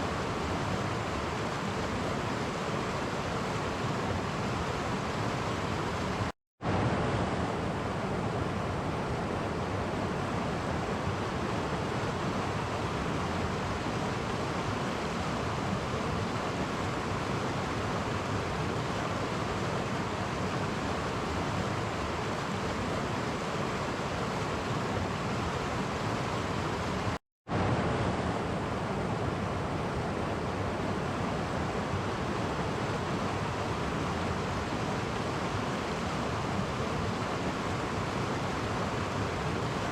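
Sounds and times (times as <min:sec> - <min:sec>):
stream flowing over cascades: 0:00.0 - 0:39.9.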